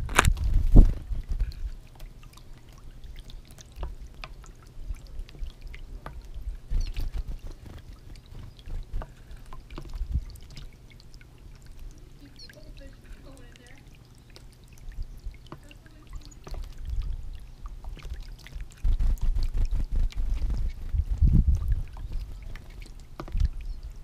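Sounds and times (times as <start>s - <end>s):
fountain splashing and trickling: 0.0s - 24.0s.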